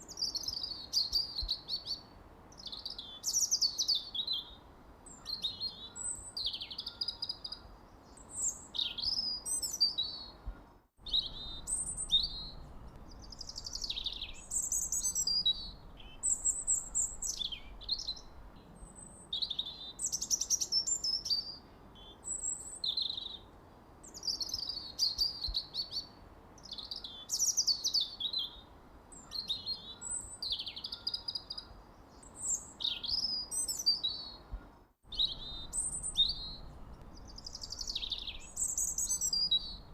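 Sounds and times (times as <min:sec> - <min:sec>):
birds chirping and trilling: 0:00.1 - 0:39.9.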